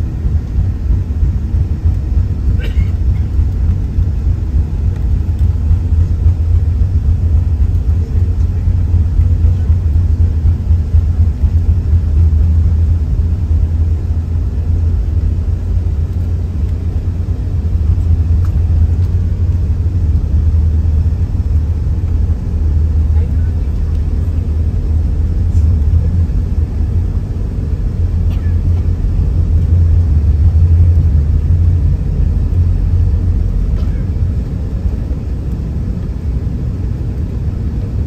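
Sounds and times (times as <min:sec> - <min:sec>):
jet engine noise: 0:00.0 - 0:38.0
runway roar: 0:00.0 - 0:38.0.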